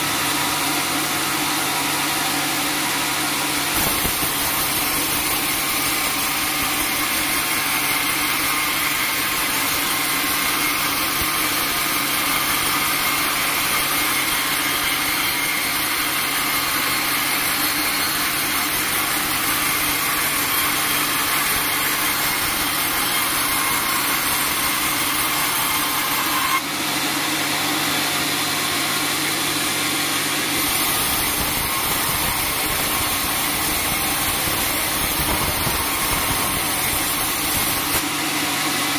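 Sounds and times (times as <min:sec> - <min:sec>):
band saw cutting log: 0:00.0 - 0:38.9
running machine: 0:00.0 - 0:38.9.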